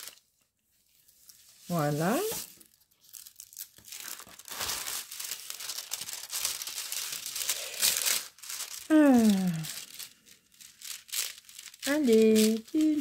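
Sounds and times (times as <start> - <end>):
plastic film crinkling and rustling: 0.0 - 13.0.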